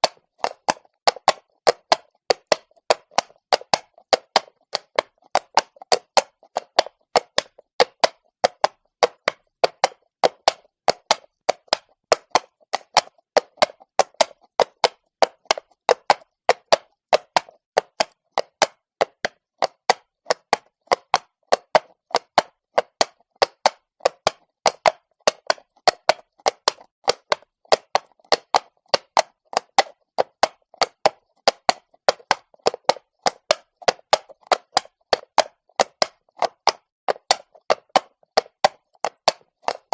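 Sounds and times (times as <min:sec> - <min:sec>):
horse hooves clopping on cobblestone: 0:00.0 - 0:39.9.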